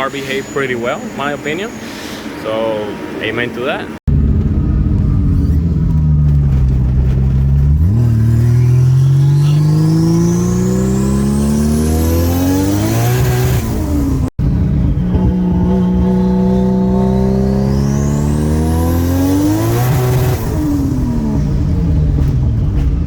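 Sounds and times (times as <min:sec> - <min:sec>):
car engine revving: 0:04.1 - 0:23.0.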